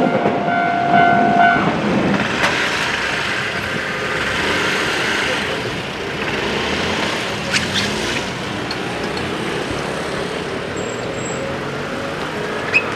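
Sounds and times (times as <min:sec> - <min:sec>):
road traffic noise: 0:00.0 - 0:12.9.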